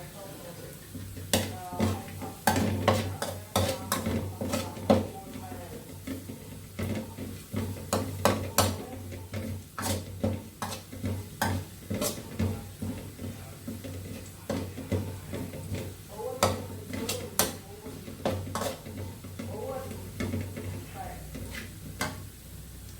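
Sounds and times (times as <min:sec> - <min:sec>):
utensil scraping cooking pot: 0:00.9 - 0:22.3.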